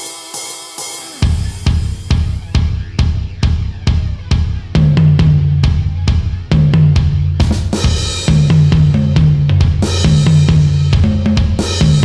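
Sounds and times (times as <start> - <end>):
rock drum kit beat: 0.0 - 12.0.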